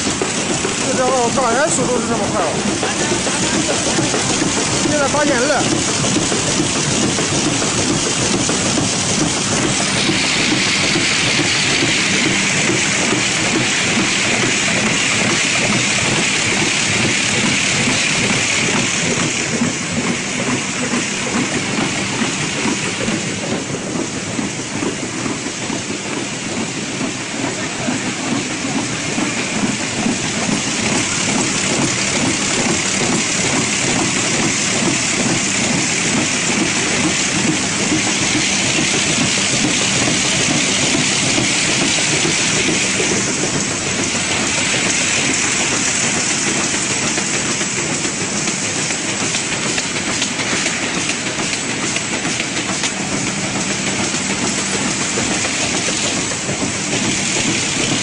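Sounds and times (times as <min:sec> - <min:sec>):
machine hiss: 0:00.0 - 0:58.0.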